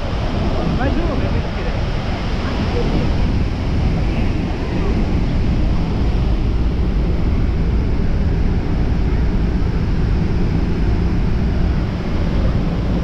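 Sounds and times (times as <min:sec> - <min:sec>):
churning whitewater: 0:00.0 - 0:13.0
waterfall rumble: 0:00.0 - 0:13.0
wind buffeting microphone: 0:00.0 - 0:13.0.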